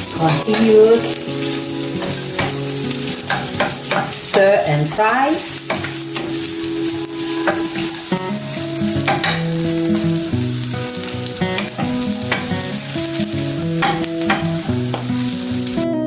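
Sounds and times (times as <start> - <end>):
spoon scraping a pan: 0.0 - 15.8
food sizzling in oil: 0.0 - 15.9
plucked string music: 0.0 - 16.0.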